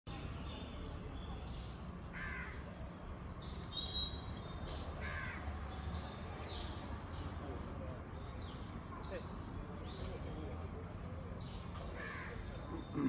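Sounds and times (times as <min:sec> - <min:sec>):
harsh bird calls: 0:01.2 - 0:07.4, 0:08.3 - 0:13.0.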